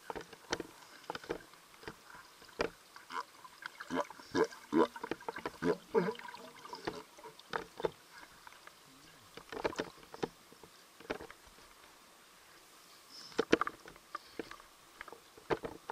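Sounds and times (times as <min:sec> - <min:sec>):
underwater clicks and knocks: 0:00.0 - 0:03.8, 0:04.8 - 0:11.6, 0:13.4 - 0:15.9.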